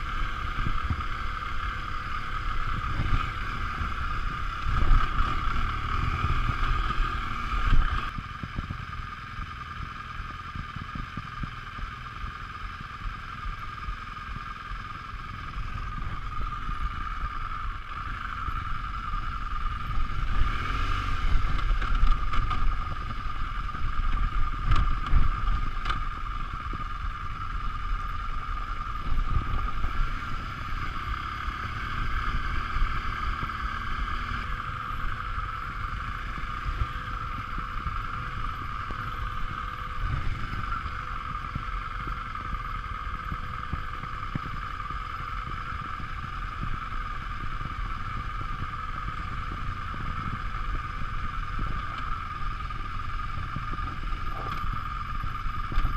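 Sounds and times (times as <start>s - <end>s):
motorcycle engine at low revs: 0.0s - 55.9s.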